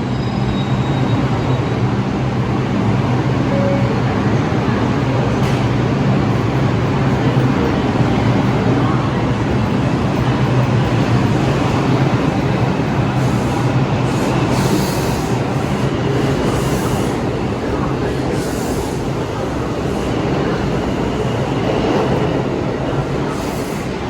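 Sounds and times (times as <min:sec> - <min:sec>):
subway train rumble and hum: 0:00.0 - 0:24.0.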